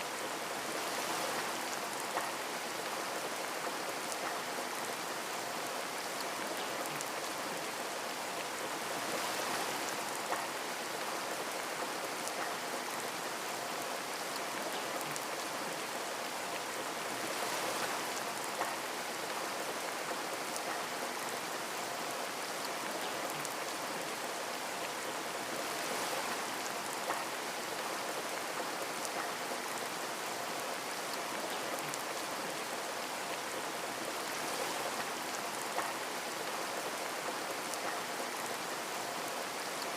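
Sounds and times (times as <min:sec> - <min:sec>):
rain pattering on a window: 0:00.1 - 0:39.9.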